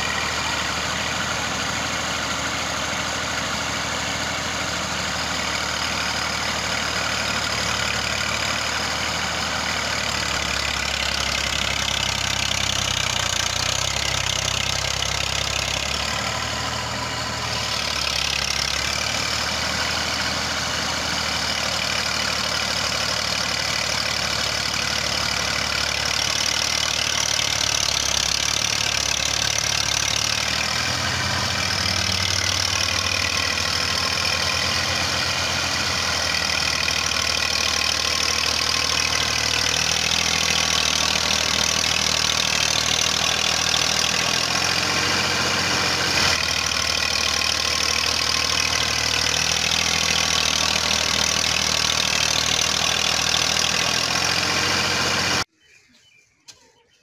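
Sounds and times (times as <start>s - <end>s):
tractor diesel engine under load: 0.0s - 55.5s.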